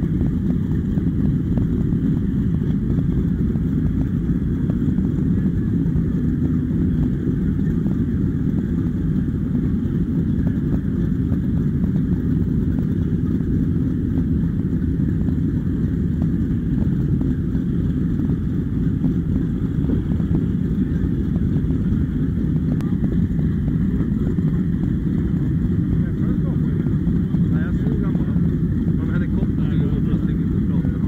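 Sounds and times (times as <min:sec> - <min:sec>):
powerboat engines rumbling: 0:00.0 - 0:31.0.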